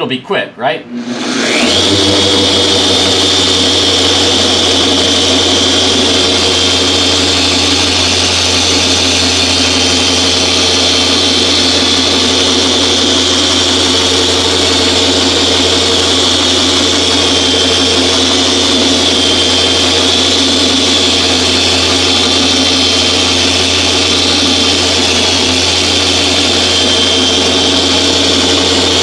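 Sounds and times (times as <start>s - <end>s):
orbital polisher motor whine: 0.9s - 29.0s.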